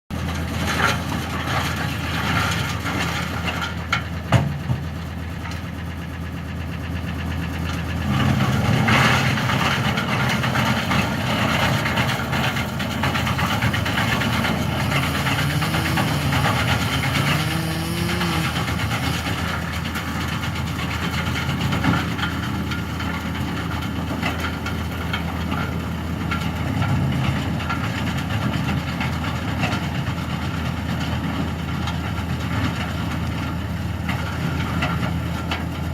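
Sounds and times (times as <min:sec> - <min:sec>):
tractor engine running wood chipper: 0:00.1 - 0:35.9.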